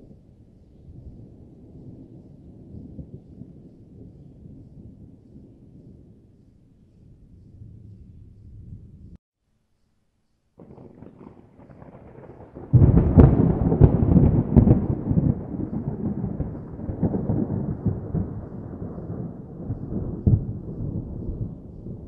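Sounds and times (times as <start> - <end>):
thunder rumbling and crackling: 0.0 - 9.2, 10.6 - 22.0.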